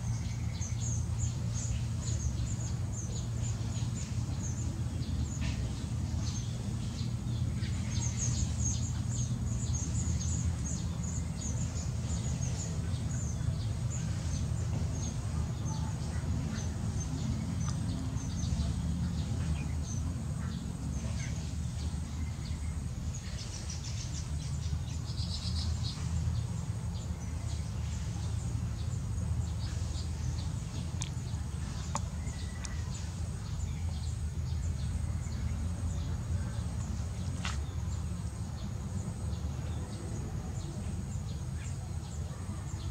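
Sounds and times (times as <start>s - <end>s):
steady low rumble: 0.0s - 42.7s
birds chirping: 0.0s - 42.9s.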